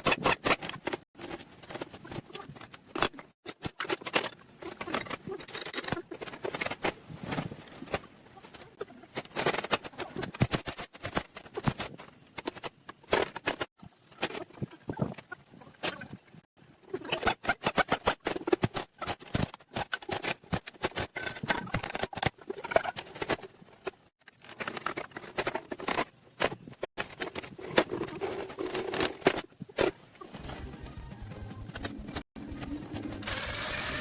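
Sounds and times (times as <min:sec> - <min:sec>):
rapid clicking and scraping: 0:00.0 - 0:16.1, 0:17.0 - 0:34.0.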